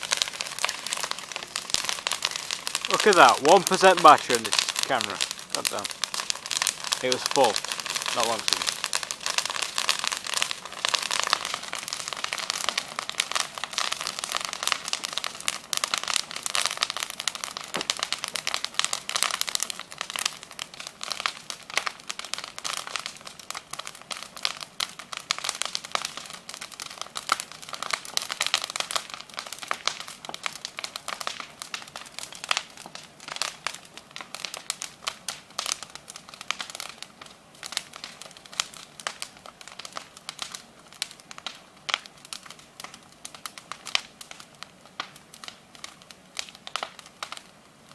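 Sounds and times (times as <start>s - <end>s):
bonfire crackling: 0.0s - 47.9s.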